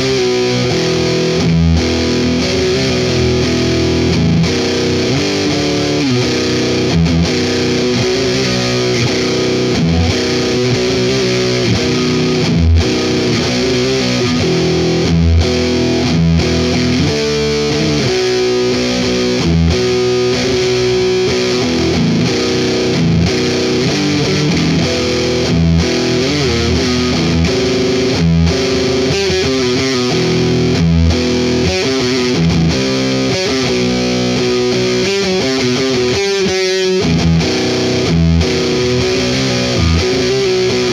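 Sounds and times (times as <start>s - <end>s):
distorted electric guitar riff: 0.0s - 40.9s.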